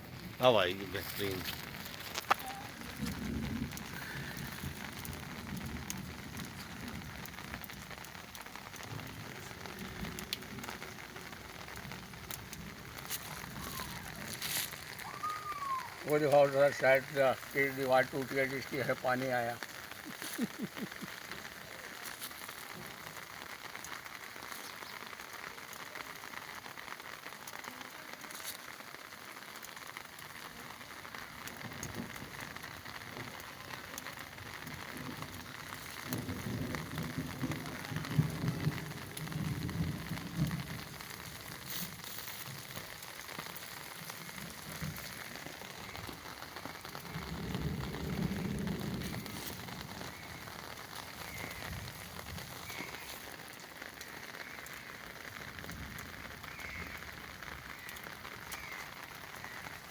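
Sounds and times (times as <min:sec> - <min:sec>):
heavy rain splashing: 0:00.0 - 0:59.9.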